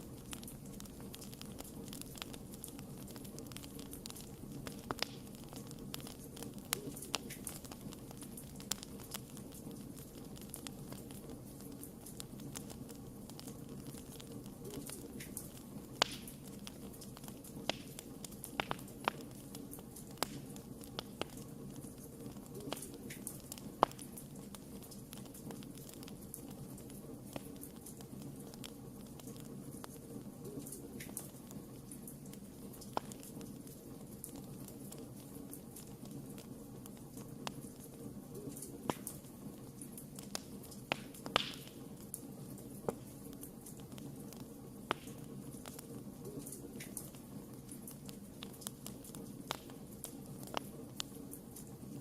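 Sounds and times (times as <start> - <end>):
low rush of burning: 0.0 - 52.0
low steady hiss: 0.0 - 52.0
wood fire crackling: 0.0 - 52.0.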